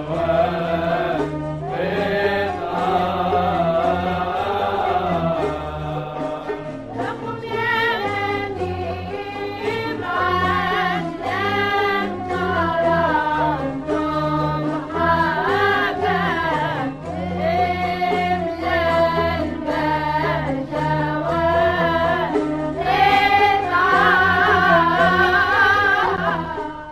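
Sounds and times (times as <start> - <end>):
classical singing: 0.0 - 26.9.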